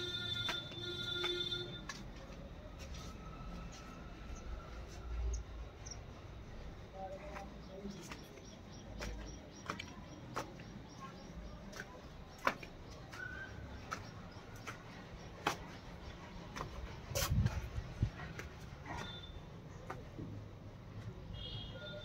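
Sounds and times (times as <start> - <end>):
footsteps on sandy floor: 0.0 - 21.2.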